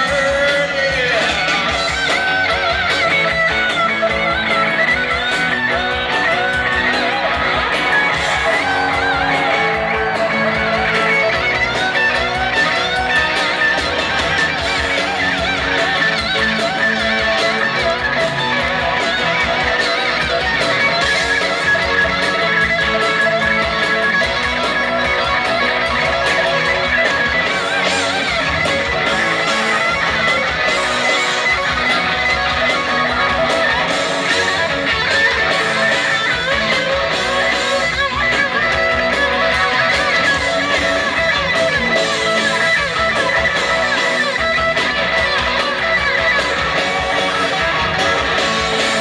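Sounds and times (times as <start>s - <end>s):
bass guitar: 0.0s - 49.0s
drums: 0.0s - 49.0s
lead electric guitar runs: 0.0s - 49.0s
strummed rhythm guitar: 0.0s - 49.0s.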